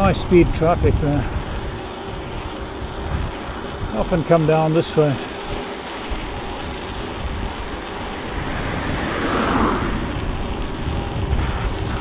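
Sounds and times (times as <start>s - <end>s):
wind rumbling on microphone: 0.0s - 4.3s, 5.4s - 12.0s
hissing road noise: 1.4s - 12.0s.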